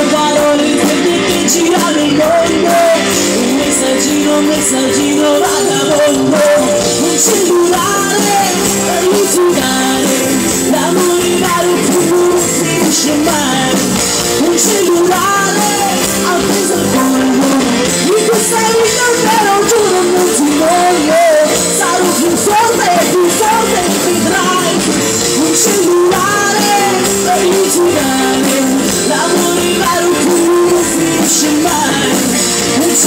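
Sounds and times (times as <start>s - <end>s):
electric guitar: 0.0s - 33.0s
live band playing: 0.0s - 33.0s
woman singing into microphone: 0.0s - 33.0s.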